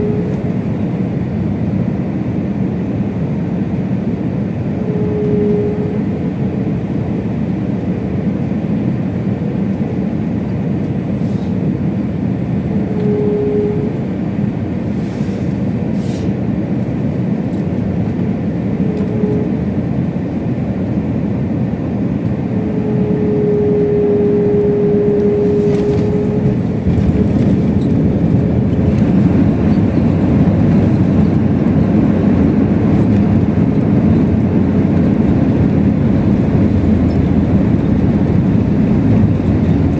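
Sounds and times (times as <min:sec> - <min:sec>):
aircraft cabin engine rush: 0:00.0 - 0:39.9
steady whine: 0:00.0 - 0:39.9.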